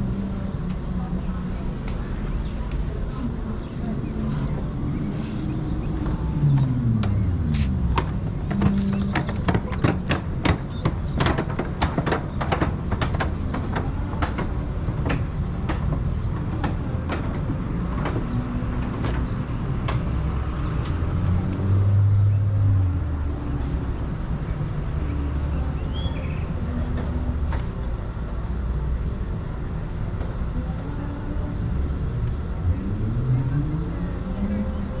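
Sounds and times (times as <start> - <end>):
motor vehicle rumble: 0.0 - 35.0.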